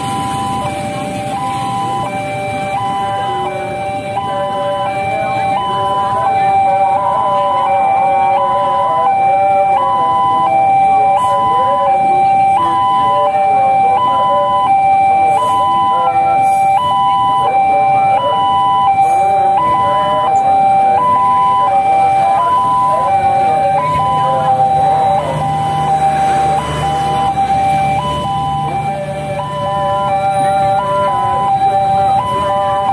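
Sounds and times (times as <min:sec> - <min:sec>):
level-crossing two-note alarm: 0:00.0 - 0:32.9.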